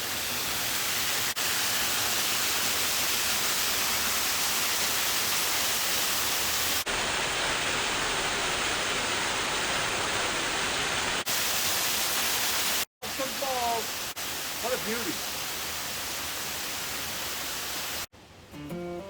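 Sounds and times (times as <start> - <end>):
waterfall rushing: 2.5 - 18.1.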